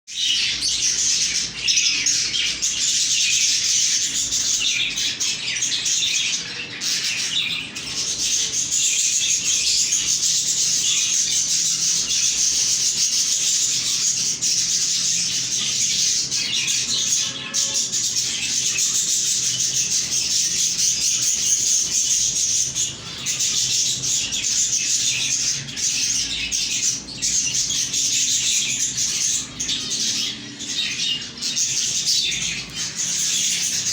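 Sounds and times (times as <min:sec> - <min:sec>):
budgies chattering and warbling: 0:00.1 - 0:33.9.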